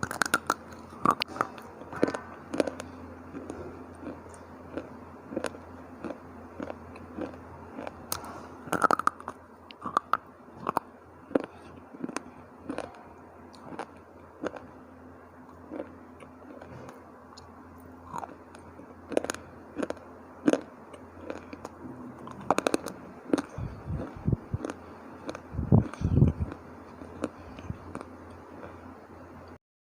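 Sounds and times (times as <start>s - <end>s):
chips being chewed: 0.0s - 14.8s, 15.4s - 28.8s
faint steady hum: 0.0s - 29.6s.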